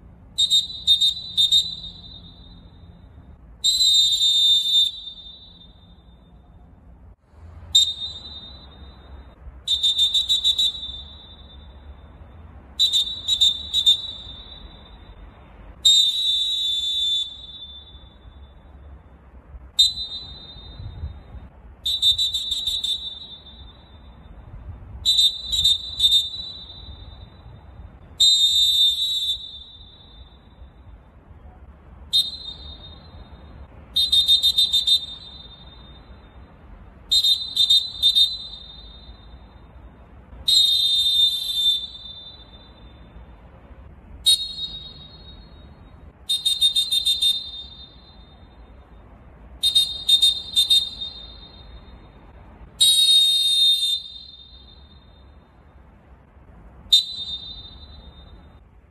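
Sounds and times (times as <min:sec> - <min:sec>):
referee whistle blasts: 0:00.3 - 0:06.5, 0:07.7 - 0:19.1, 0:19.7 - 0:31.1, 0:32.0 - 0:43.3, 0:44.2 - 0:55.7, 0:56.8 - 0:58.6.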